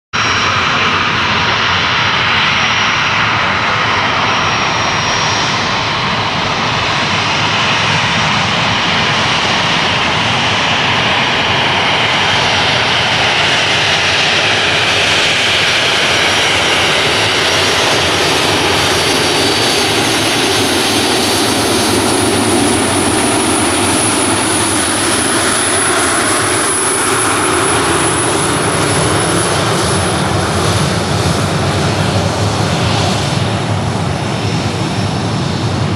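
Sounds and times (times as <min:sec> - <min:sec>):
jet engines taxiing: 0:00.2 - 0:35.9
thin high engine whine: 0:00.2 - 0:35.9.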